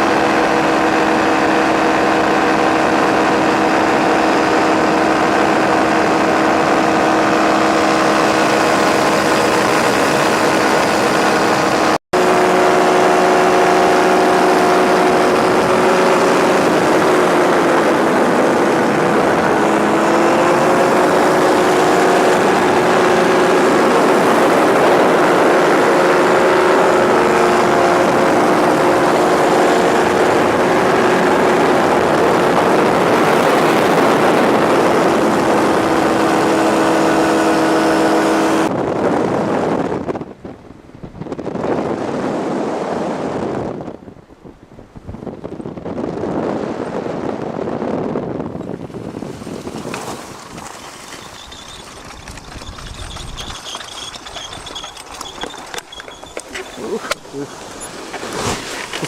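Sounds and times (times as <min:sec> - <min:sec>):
engine running: 0:00.0 - 0:38.7, 0:49.8 - 0:59.0.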